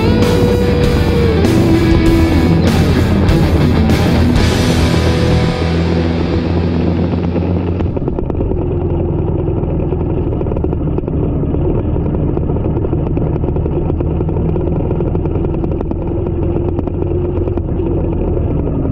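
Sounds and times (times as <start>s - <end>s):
motorcycle engine cruising: 0.0s - 18.9s.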